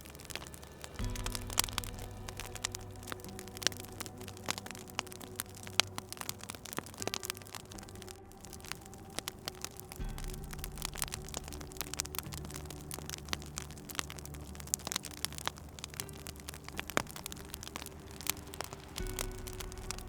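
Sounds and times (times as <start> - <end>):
low steady hum: 0.0 - 20.0
wood fire crackling and popping: 0.0 - 20.0.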